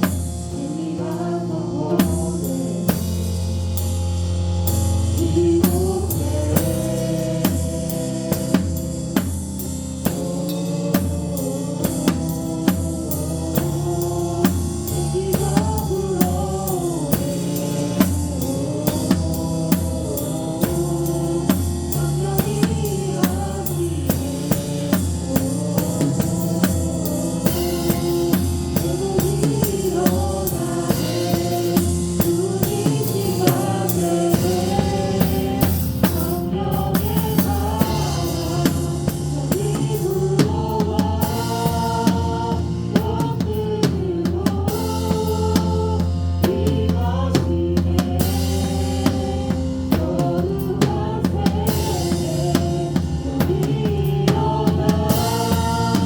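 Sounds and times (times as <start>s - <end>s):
worship band playing: 0.0s - 56.0s.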